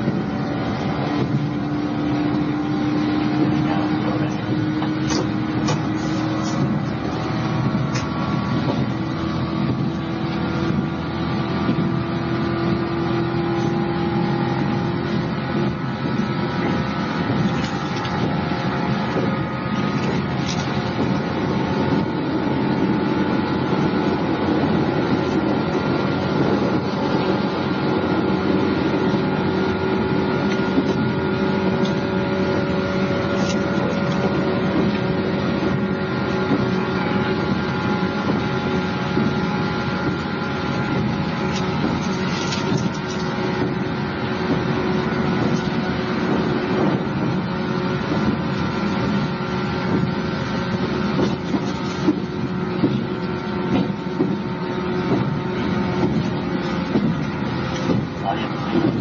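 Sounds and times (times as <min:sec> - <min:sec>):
motor and gear whine: 0:00.0 - 0:59.0
train wheels rumbling: 0:00.0 - 0:59.0.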